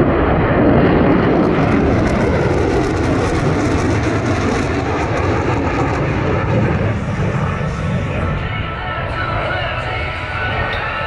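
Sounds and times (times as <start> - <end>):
jet engine rumble overhead: 0.0 - 11.0.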